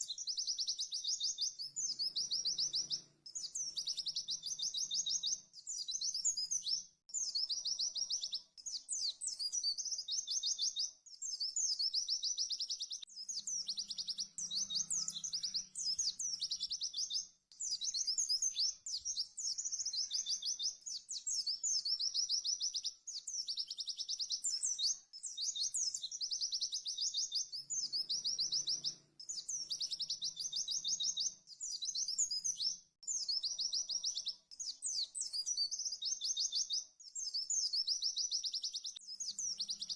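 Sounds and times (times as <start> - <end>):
bird singing rapid high trills: 0.0 - 39.9.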